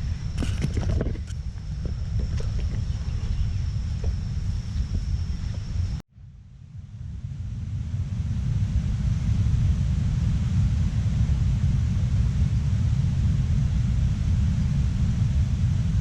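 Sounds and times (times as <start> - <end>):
wind buffeting microphone: 0.0 - 6.0, 6.7 - 16.0.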